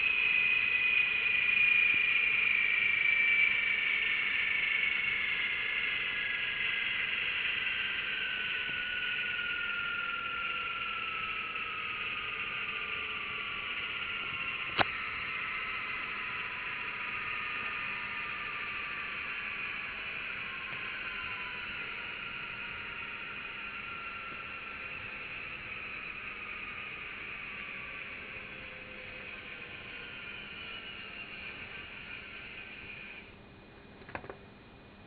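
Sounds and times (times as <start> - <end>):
simulated engine sound: 0.0 - 33.4.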